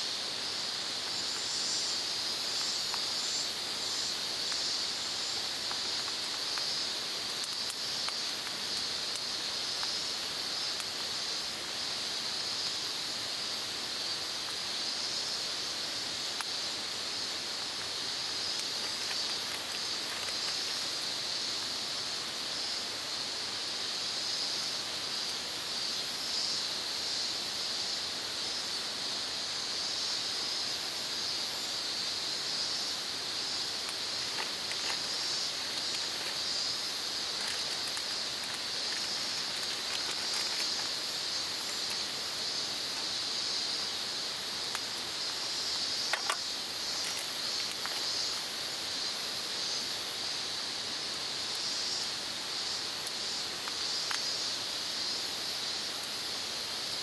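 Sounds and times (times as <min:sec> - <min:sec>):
insects chirring: 0:00.0 - 0:57.0
pulsing insect trill: 0:00.0 - 0:57.0.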